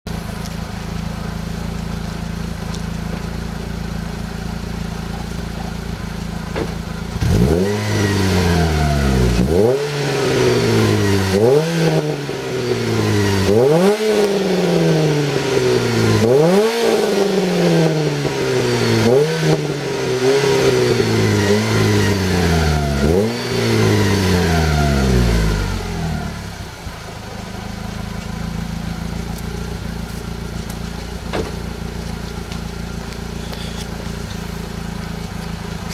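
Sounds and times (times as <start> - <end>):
car engine idling: 0.1 - 35.9
car engine revving: 0.4 - 35.9.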